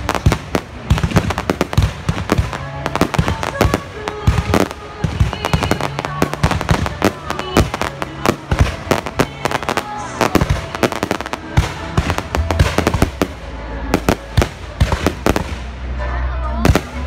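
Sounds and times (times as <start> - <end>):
fireworks bangs and crackles: 0.0 - 16.0, 16.6 - 17.0.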